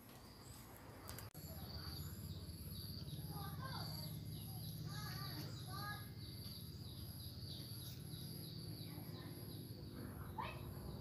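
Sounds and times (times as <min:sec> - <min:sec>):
birds chirping: 0:00.2 - 0:11.0
insects trilling: 0:01.4 - 0:11.0.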